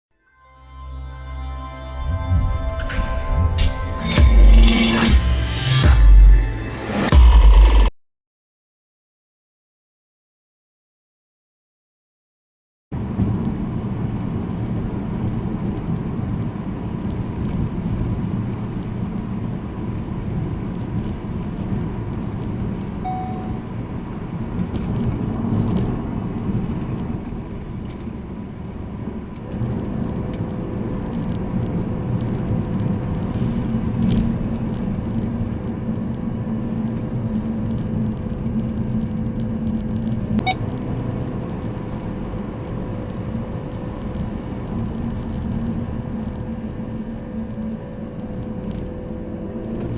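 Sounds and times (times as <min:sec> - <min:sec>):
car engine and road rumble: 0:00.4 - 0:07.9, 0:12.9 - 0:49.9.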